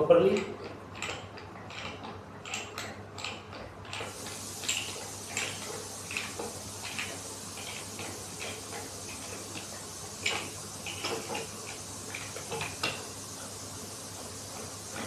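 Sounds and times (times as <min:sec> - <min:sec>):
ratchet metallic clicks: 0:00.2 - 0:13.0
steady background hiss: 0:01.8 - 0:15.0.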